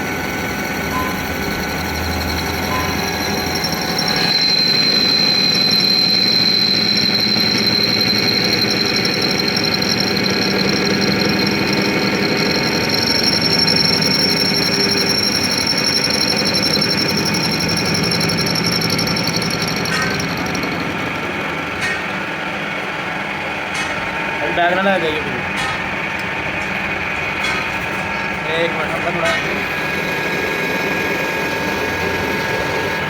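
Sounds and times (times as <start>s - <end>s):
machine tool whining and rattling: 0.0s - 33.0s.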